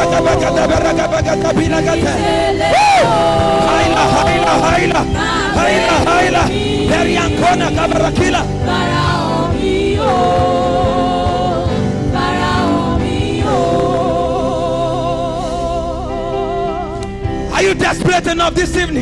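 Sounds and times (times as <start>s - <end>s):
keyboard chords: 0.0s - 19.0s.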